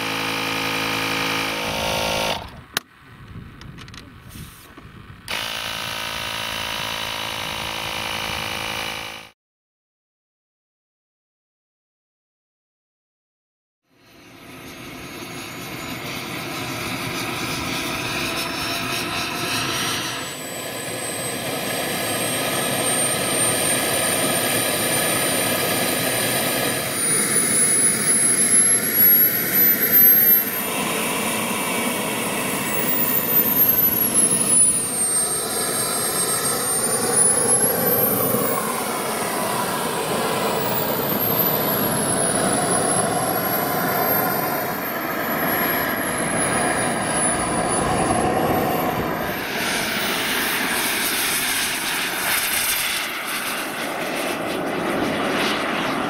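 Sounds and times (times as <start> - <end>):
model jet turbine whining: 4.6 - 9.3, 14.0 - 56.0.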